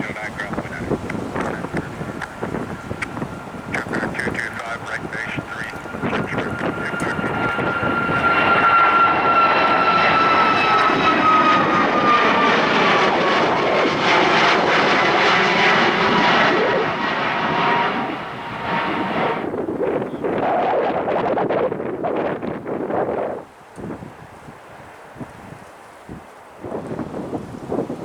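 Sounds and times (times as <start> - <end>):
jet airliner passing: 0.0 - 28.0.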